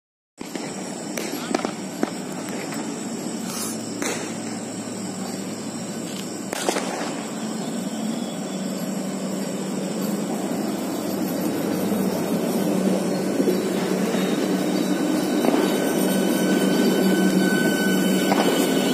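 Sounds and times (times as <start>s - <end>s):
train rumbling past: 0.4s - 18.9s.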